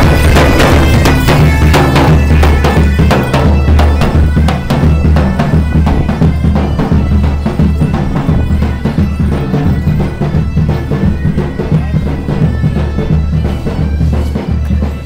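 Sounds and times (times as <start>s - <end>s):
bagpipes over a drone: 0.0s - 15.0s
large drum beating: 0.0s - 15.0s.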